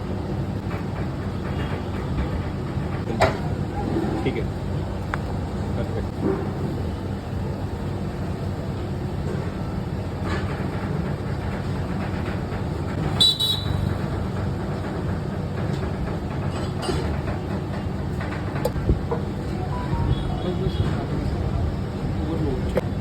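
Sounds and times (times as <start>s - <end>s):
low street noise rumble: 0.0s - 23.0s.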